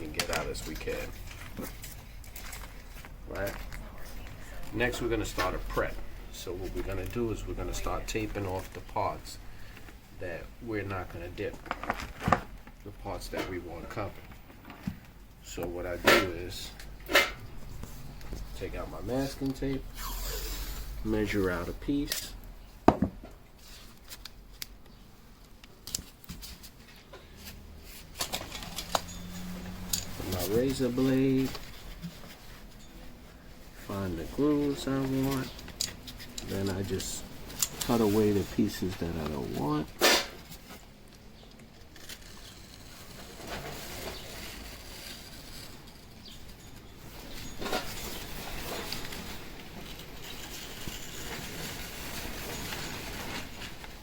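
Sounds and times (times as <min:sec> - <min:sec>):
masking tape rustling and scraping: 0:00.0 - 0:22.7, 0:23.5 - 0:54.0.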